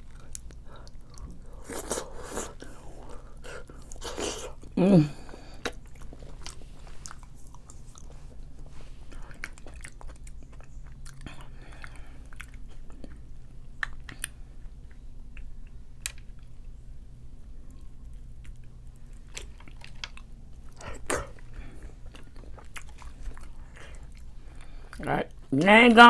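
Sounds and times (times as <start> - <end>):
wet chewing and mouth sounds: 0.0 - 25.7.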